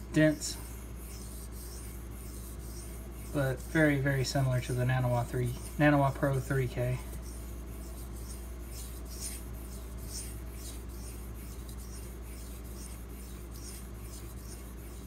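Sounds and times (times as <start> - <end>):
steady low hum: 0.0 - 15.0
knife scraping on whetstone: 1.0 - 15.0.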